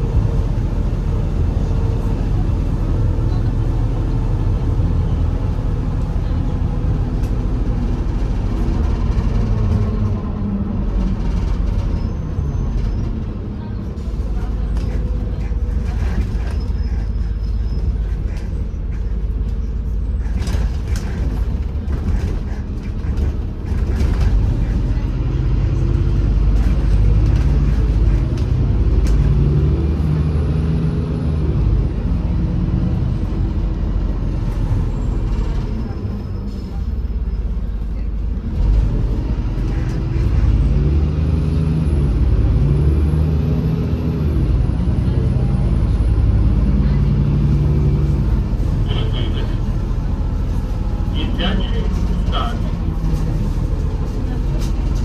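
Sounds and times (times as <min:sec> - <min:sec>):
bus engine low rumble: 0:00.0 - 0:55.0.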